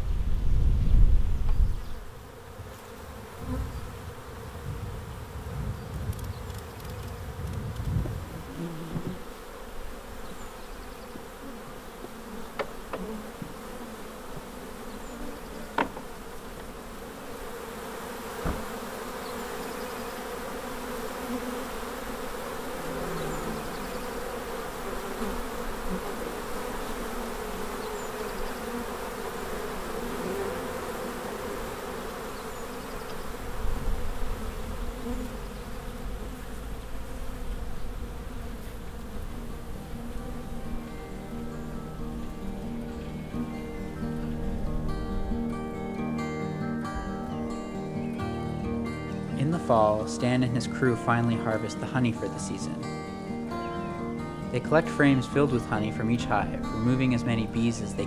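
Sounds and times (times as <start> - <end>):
bees buzzing: 1.4 - 58.0.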